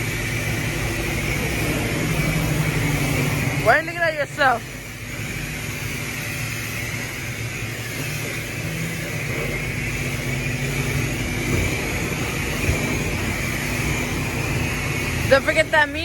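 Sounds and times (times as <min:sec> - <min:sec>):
low pump hum: 0:00.0 - 0:16.0
pressure washer spraying water: 0:00.0 - 0:16.0.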